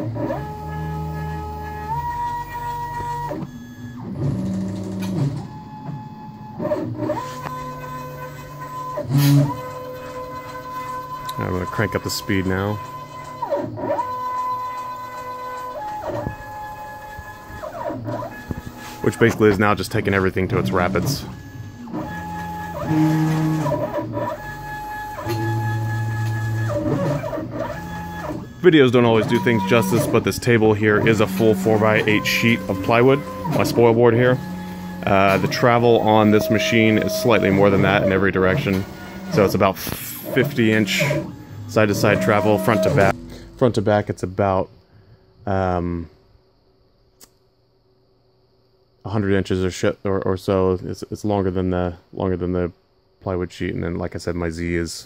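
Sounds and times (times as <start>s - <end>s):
stepper motors whining: 0.0s - 44.5s.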